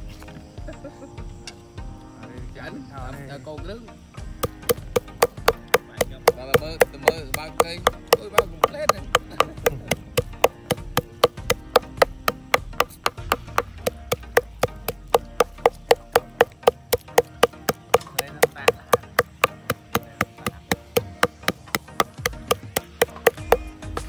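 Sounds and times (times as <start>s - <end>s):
knife chopping on wooden block: 4.4s - 24.0s.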